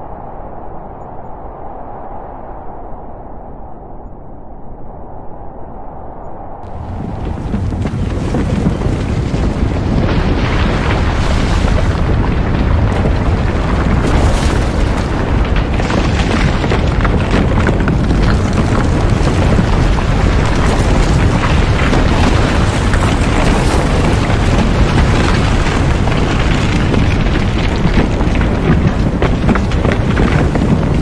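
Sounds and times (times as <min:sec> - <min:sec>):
deep rumble with crackling: 0:00.0 - 0:31.0.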